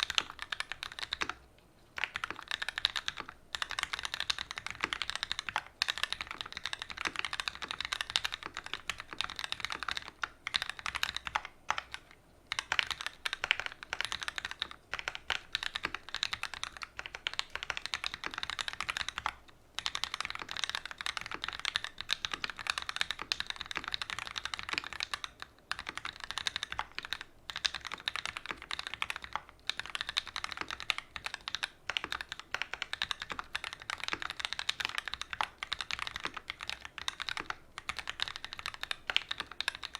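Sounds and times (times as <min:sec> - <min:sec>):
fast mechanical keyboard typing: 0:00.0 - 0:01.4, 0:02.0 - 0:39.9.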